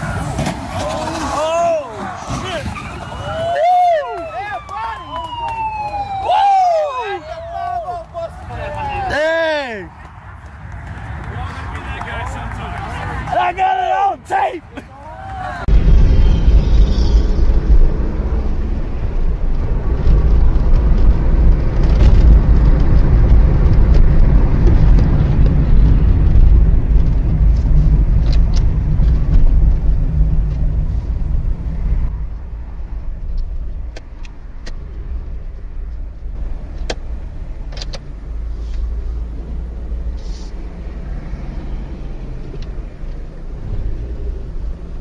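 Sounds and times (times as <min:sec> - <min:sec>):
car engine and road rumble: 0:00.0 - 0:45.0.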